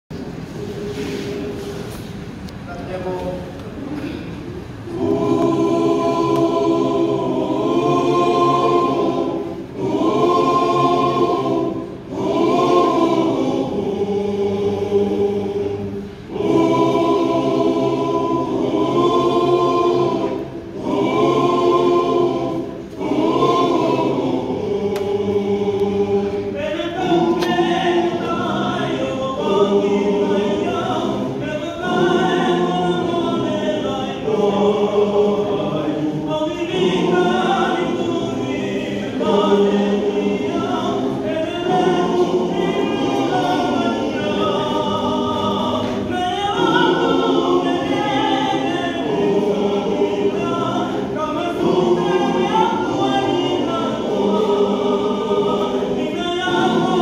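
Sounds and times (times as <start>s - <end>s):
mixed choir singing: 4.0s - 57.0s.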